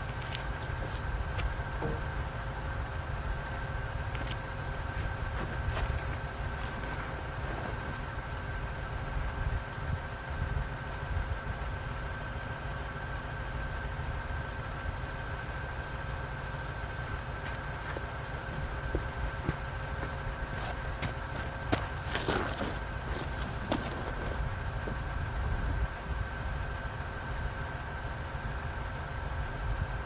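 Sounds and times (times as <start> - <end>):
faint steady whine: 0.0 - 30.0
vehicle engine idling: 0.0 - 30.0.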